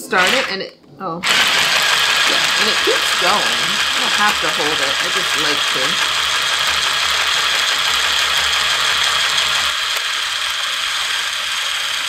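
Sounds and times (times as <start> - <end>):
sewing machine clatter: 1.2 - 12.0.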